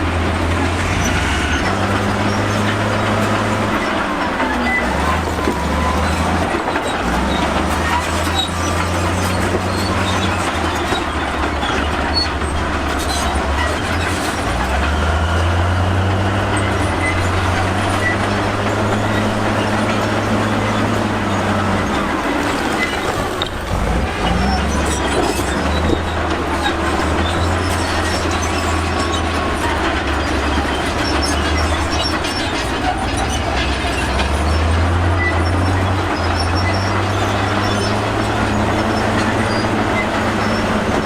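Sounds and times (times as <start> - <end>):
bulldozer diesel engine under load: 0.0 - 41.0
steel tracks clattering: 0.0 - 41.0.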